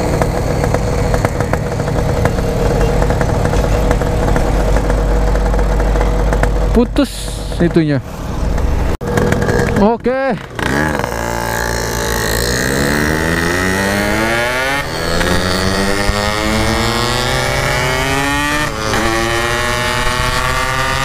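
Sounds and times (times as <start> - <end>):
two-stroke motorcycle accelerating: 0.0 - 21.0.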